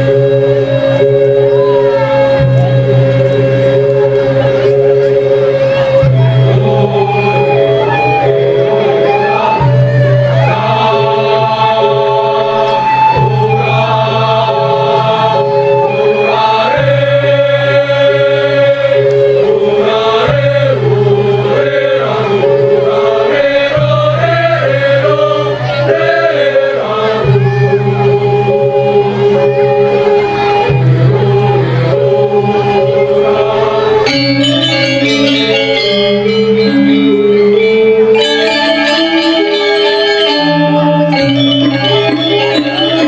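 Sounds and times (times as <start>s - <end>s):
gamelan ensemble playing: 0.0s - 43.0s.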